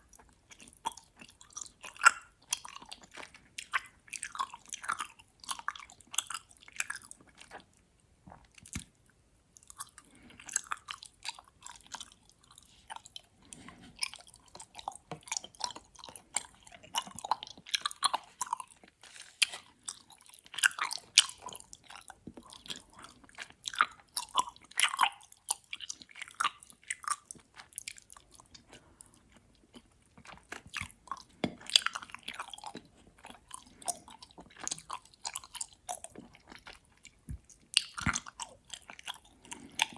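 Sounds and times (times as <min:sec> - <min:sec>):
chewing gummy candy: 0:00.0 - 0:39.9.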